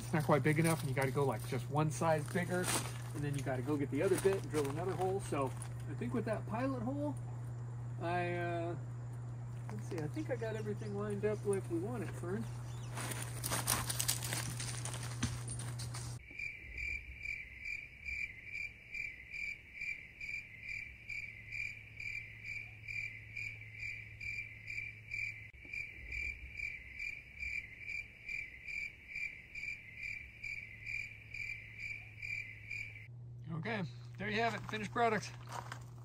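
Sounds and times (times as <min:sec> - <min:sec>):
insect chirping: 0:00.0 - 0:33.1.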